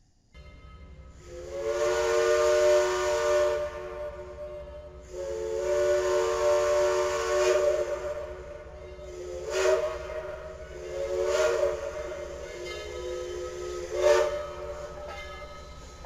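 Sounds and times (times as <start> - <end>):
steam locomotive whistle chord: 0.4 - 16.0
rush of steam: 1.1 - 16.0.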